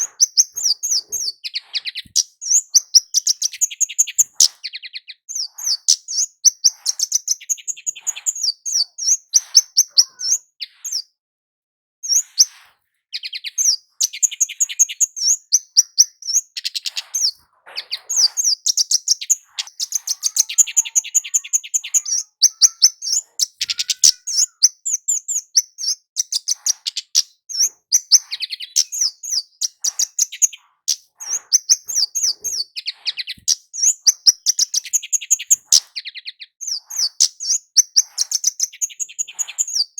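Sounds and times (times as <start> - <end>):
bird singing high thin chirps: 0.0 - 11.1, 12.0 - 39.9.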